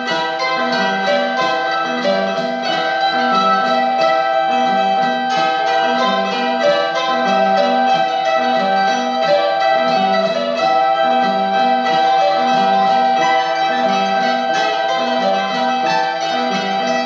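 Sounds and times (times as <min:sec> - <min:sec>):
frame drum beat: 0:00.0 - 0:17.0
mandolins: 0:00.0 - 0:17.0
recorder long high notes: 0:00.0 - 0:17.0
repeating piano figure: 0:00.0 - 0:17.0.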